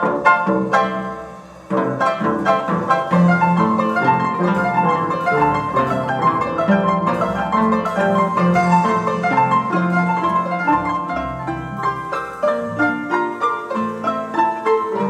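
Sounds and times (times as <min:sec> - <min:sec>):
harps playing plucked notes: 0:00.2 - 0:15.0.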